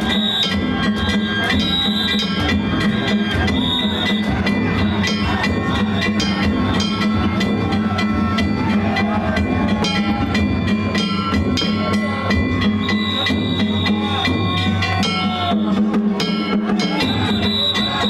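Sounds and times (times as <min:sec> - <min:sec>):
drums: 0:00.0 - 0:18.0
hand gongs struck rapidly: 0:00.0 - 0:18.0.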